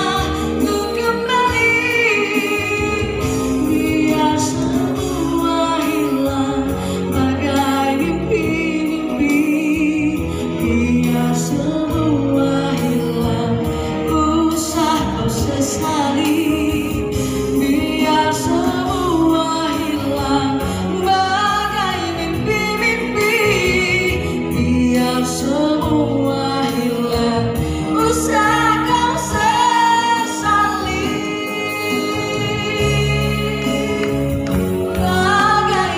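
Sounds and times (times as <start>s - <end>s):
backing music: 0.0s - 35.9s
woman singing into microphone: 0.0s - 35.9s.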